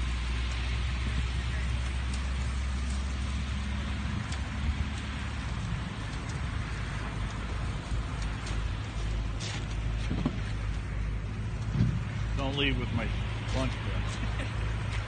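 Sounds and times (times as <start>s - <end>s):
faint crackles: 0.0s - 15.0s
low steady rumble: 0.0s - 15.0s
truck burning with hiss: 0.0s - 15.0s.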